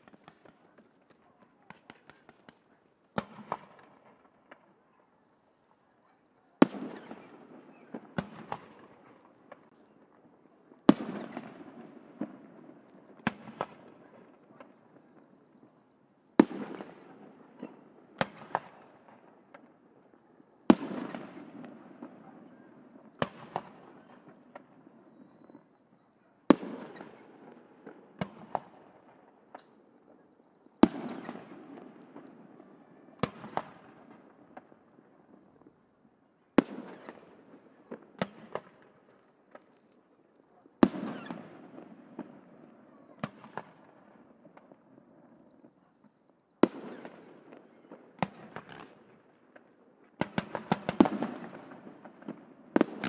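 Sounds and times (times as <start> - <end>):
small firework cracks: 0.0 - 53.0.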